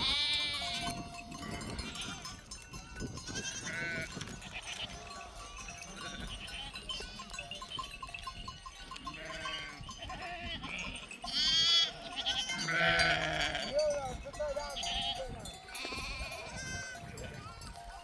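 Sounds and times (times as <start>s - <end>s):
livestock bleating: 0.0s - 2.5s, 3.2s - 7.4s, 9.0s - 13.9s, 14.7s - 17.6s.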